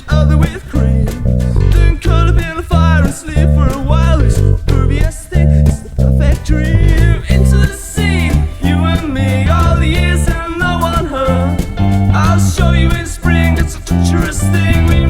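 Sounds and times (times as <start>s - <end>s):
man singing: 0.0s - 15.0s
plucked bass line: 0.0s - 15.0s.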